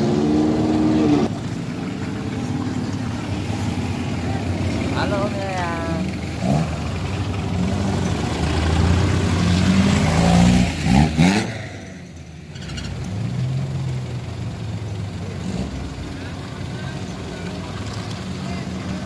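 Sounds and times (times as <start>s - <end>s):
off-road vehicle engines passing: 0.0s - 19.0s.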